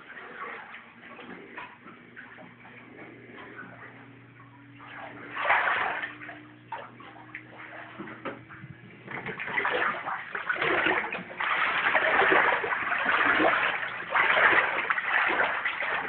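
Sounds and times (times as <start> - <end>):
faint steady hum: 0.0 - 16.0
footsteps sloshing through water: 0.0 - 16.0.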